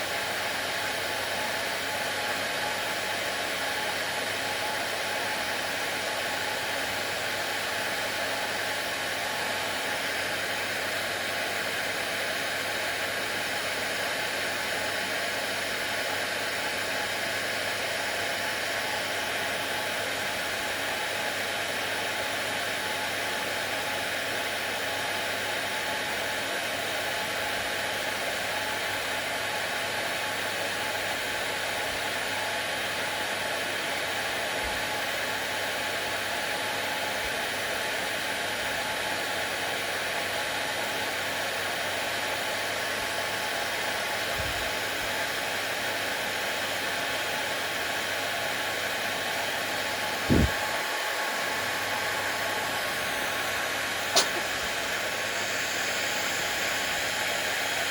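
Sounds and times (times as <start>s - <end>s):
hair dryer blowing: 0.0s - 57.9s.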